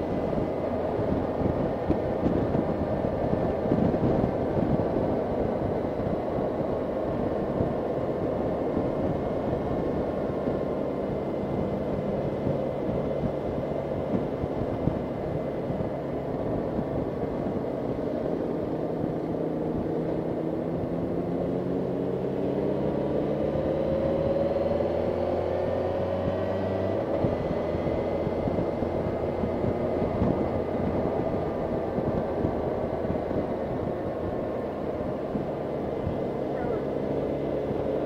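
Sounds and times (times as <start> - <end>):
motorcycle engine running: 0.0 - 38.0
wind noise: 0.0 - 38.0.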